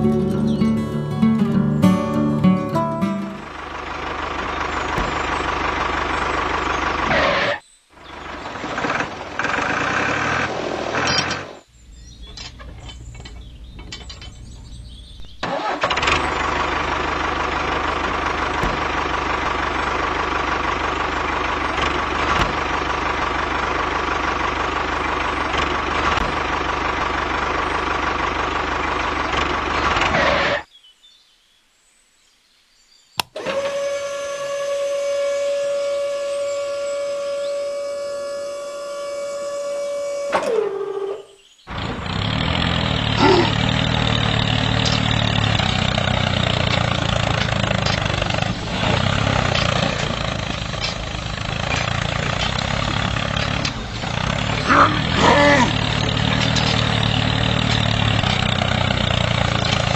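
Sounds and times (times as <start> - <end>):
model tractor engine running: 3.2 - 30.6, 33.2 - 40.5, 41.7 - 59.9.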